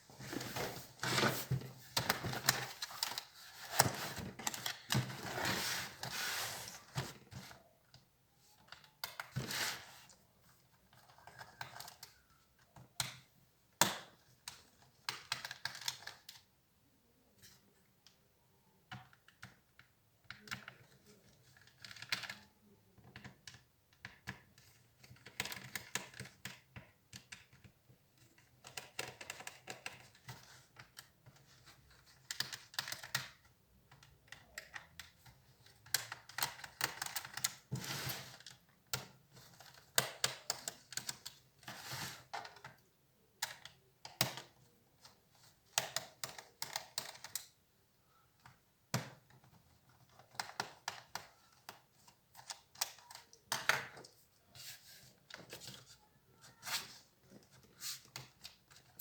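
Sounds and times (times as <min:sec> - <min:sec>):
plastic clicks and rattles of laptop: 0:00.3 - 0:06.1, 0:06.9 - 0:09.6, 0:10.6 - 0:16.5, 0:18.9 - 0:59.0.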